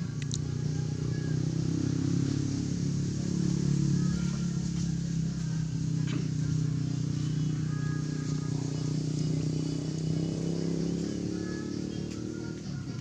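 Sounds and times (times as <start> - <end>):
low mechanical motor hum: 0.0 - 13.0.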